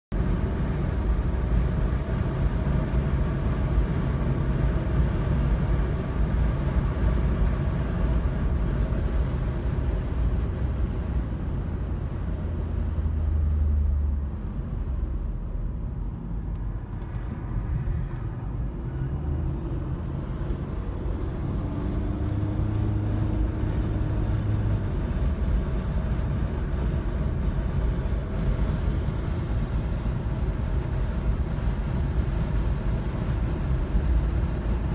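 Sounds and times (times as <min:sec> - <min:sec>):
car engine and road noise: 0:00.1 - 0:34.9.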